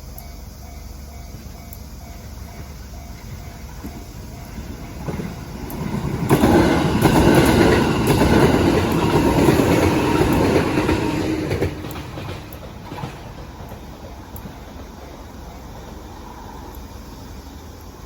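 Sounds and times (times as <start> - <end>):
train wheels clattering over rails: 0.7 - 16.7.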